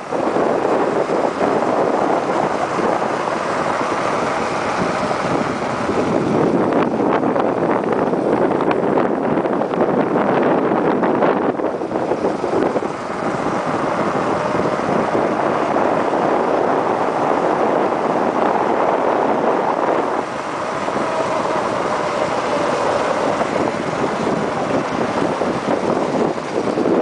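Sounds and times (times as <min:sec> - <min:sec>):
vehicle engine cruising: 0:00.0 - 0:27.0
wind rushing over microphone: 0:00.0 - 0:27.0.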